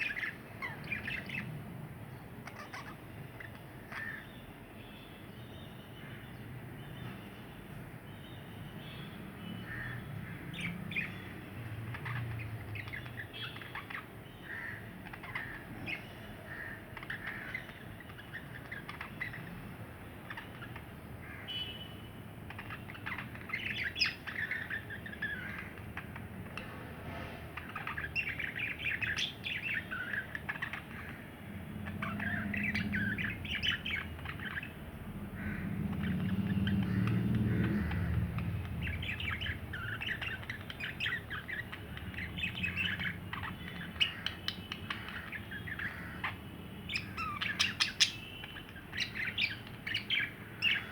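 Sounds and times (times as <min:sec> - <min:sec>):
budgerigars chattering and warbling: 0:00.0 - 0:01.6, 0:02.4 - 0:04.6, 0:09.4 - 0:26.9, 0:27.5 - 0:50.9.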